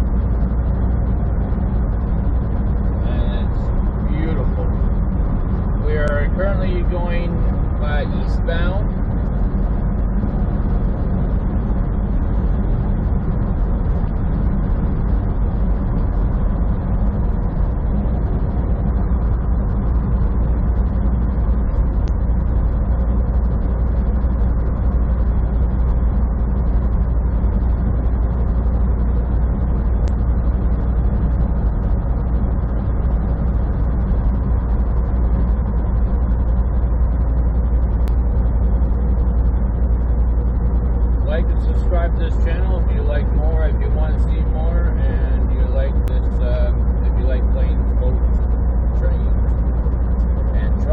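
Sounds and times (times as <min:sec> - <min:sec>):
truck engine and tyre rumble: 0:00.0 - 0:50.9.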